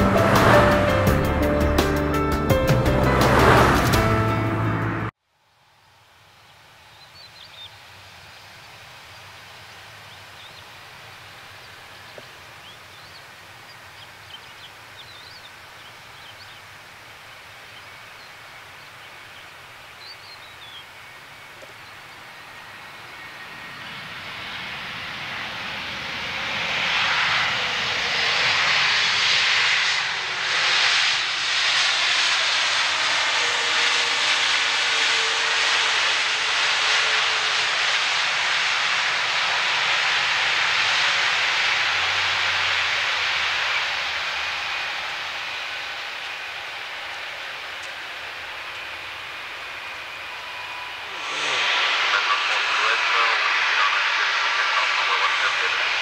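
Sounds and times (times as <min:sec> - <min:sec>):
jet airliner landing: 0:00.0 - 0:05.2, 0:07.2 - 0:56.0.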